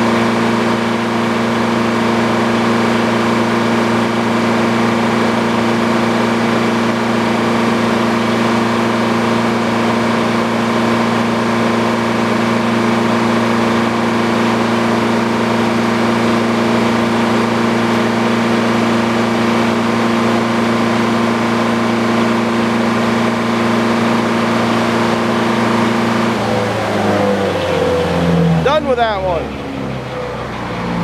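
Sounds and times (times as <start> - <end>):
sawmill mechanical drone: 0.0 - 31.0.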